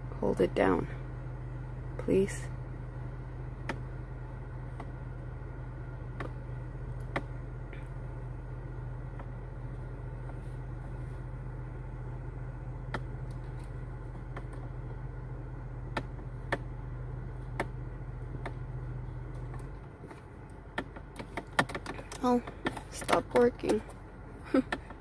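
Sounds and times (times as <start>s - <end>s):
car interior hum: 0.0s - 25.0s.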